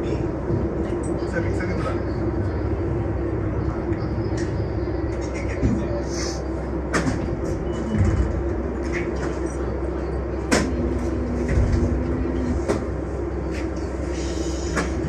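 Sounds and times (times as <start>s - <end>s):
train car rumble: 0.0s - 15.0s.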